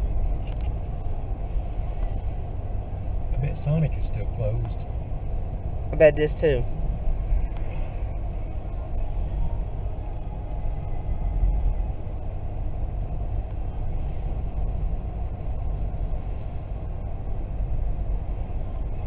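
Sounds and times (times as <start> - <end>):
car driving on snow: 0.0 - 19.0.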